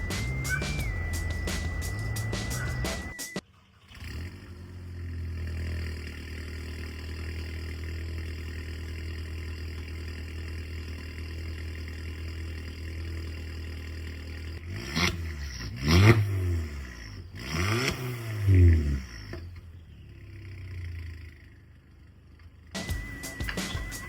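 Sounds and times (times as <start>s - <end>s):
car engine starting and idling: 0.0s - 24.0s.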